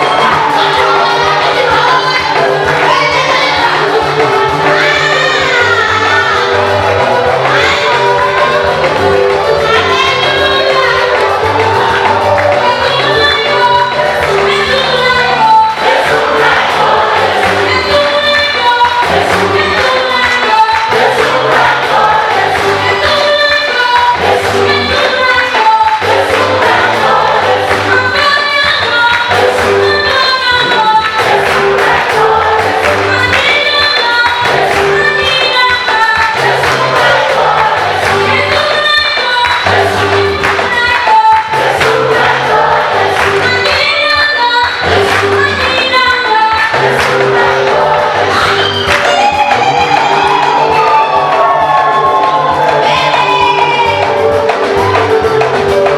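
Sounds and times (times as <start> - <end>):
bass line and steady beat: 0.0 - 55.9
choir singing gospel: 0.0 - 55.9
instrumental accompaniment: 0.0 - 55.9.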